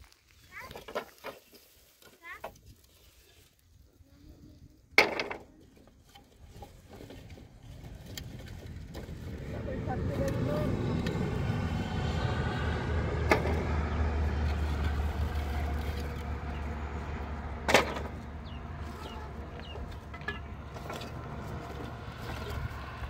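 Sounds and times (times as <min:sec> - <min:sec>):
vehicle engine rumbling: 0:04.2 - 0:23.0.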